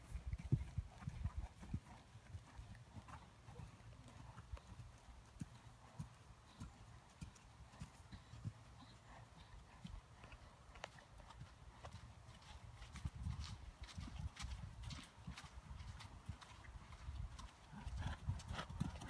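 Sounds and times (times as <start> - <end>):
hoofbeats on soft sand: 0.0 - 19.0.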